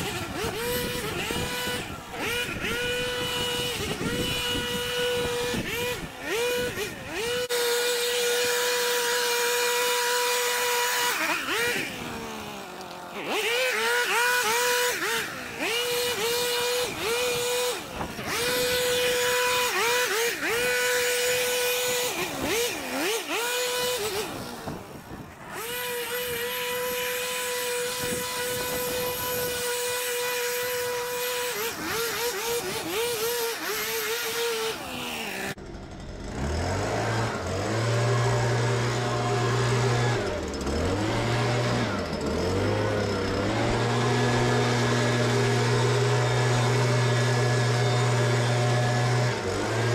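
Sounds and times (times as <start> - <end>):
leaf blower whining: 0.0 - 49.9
lower-pitched blower engine: 0.0 - 49.9.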